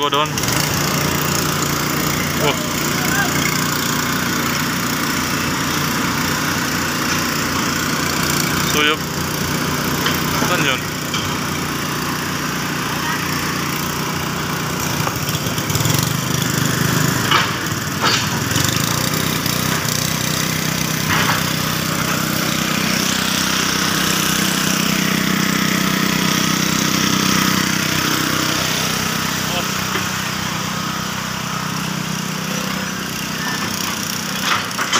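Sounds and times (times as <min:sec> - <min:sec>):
water pump engine running: 0:00.0 - 0:34.9.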